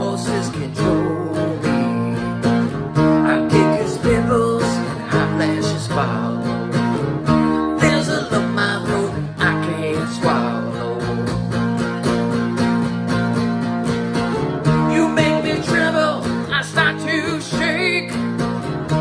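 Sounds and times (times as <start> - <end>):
man singing: 0.0 - 11.6, 14.8 - 19.0
acoustic guitar strumming: 0.0 - 19.0.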